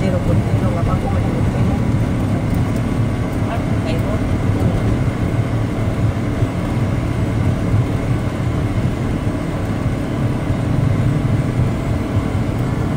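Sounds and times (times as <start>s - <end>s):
car engine and road noise: 0.0s - 12.9s.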